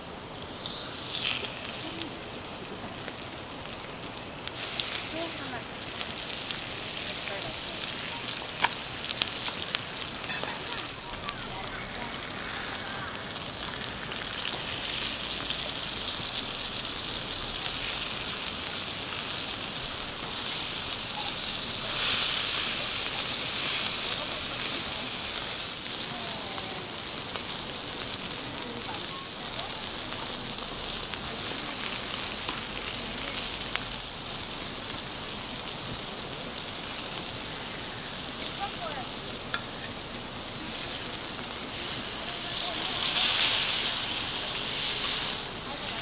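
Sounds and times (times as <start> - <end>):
steaks sizzling on a griddle: 0.0 - 46.0.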